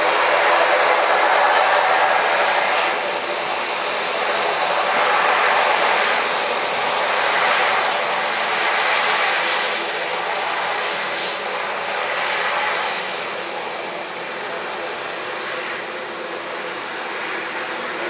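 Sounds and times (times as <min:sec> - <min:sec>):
jet engines at taxi power: 0:00.0 - 0:18.0.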